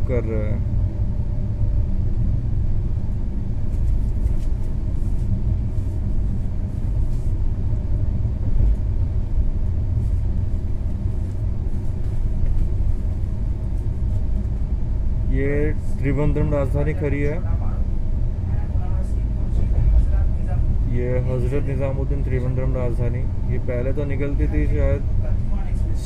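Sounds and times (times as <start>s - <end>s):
train coach rumbling on rails: 0.0s - 26.0s.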